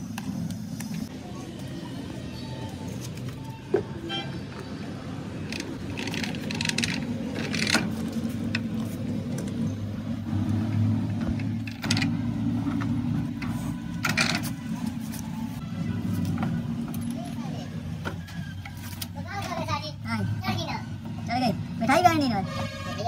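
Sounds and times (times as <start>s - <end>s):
low mechanical hum: 0.0s - 22.8s.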